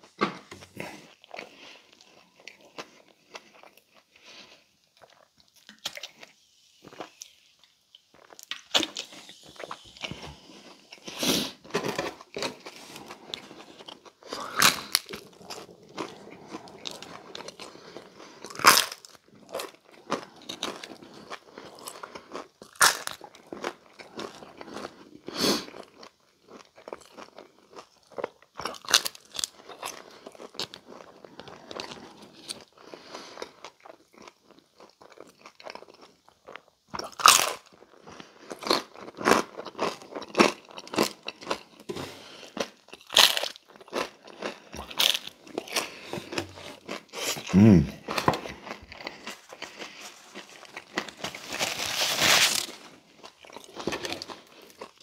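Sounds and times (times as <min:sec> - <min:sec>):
chewing: 0:00.4 - 0:51.9, 0:52.6 - 0:55.0
pizza crust crunching: 0:08.0 - 0:55.0.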